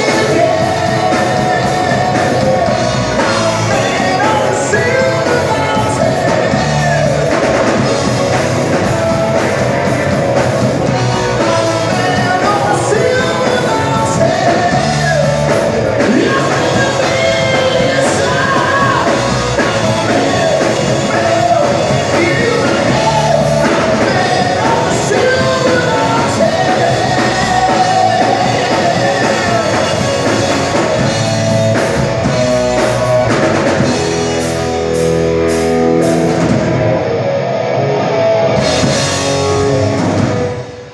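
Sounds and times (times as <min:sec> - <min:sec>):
person singing: 0:00.0 - 0:34.6
rock band playing live: 0:00.0 - 0:40.9.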